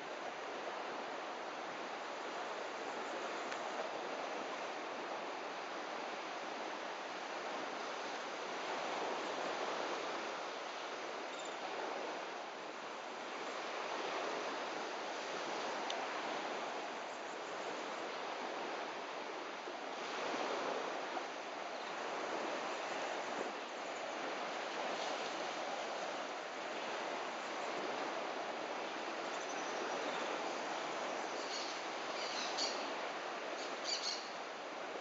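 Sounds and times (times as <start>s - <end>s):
surf washing onto beach: 0.0s - 35.0s.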